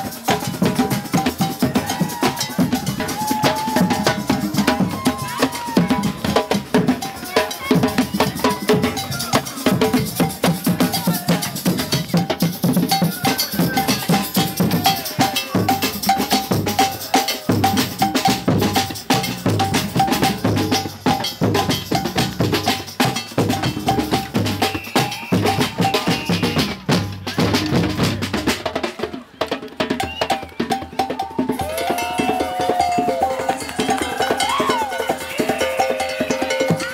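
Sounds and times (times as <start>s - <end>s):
percussion-heavy music: 0.0s - 36.9s.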